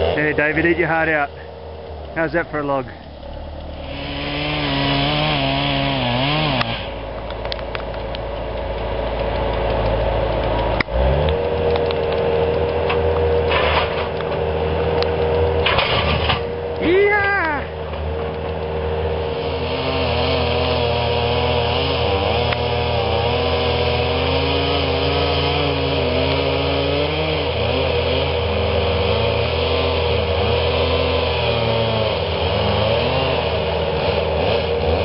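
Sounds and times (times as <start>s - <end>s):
skid-steer loader engine running: 0.0s - 35.0s.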